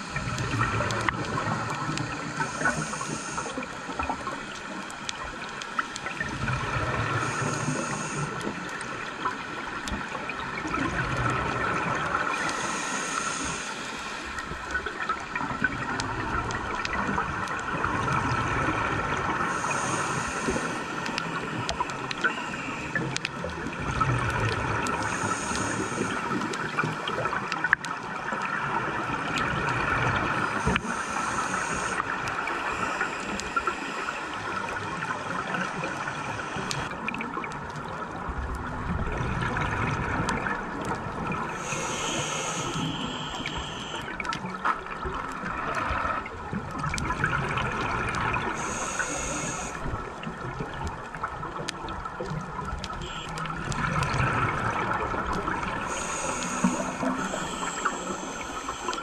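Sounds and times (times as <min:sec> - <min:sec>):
underwater watery rush: 0:00.0 - 0:59.0
exhaled bubbles from regulator: 0:10.0 - 0:59.0.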